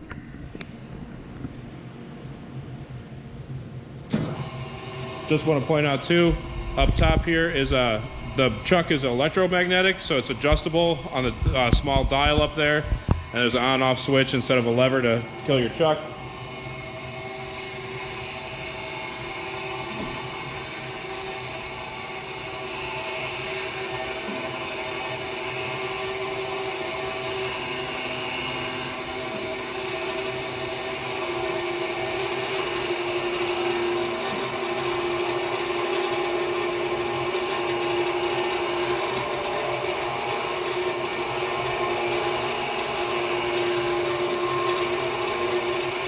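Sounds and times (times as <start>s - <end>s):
surface grinder humming: 4.2s - 46.0s
grinding wheel hiss: 4.4s - 46.0s.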